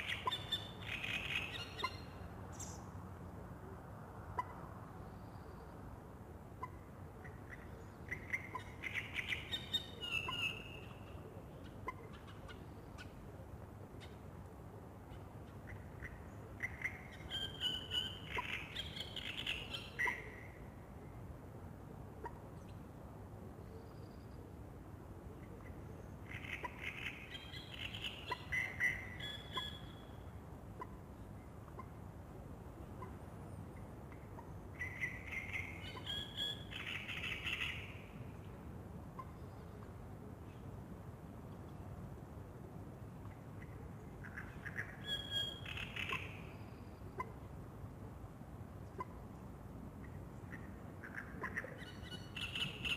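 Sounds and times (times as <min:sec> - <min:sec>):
outdoor background noise: 0:00.0 - 0:52.9.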